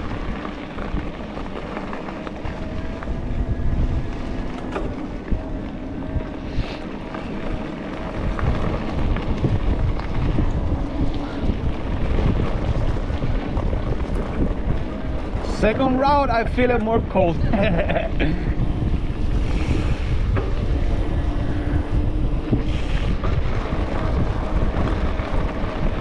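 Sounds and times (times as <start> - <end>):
tyres rumbling on trail: 0.0 - 26.0
wind buffeting microphone: 0.0 - 26.0.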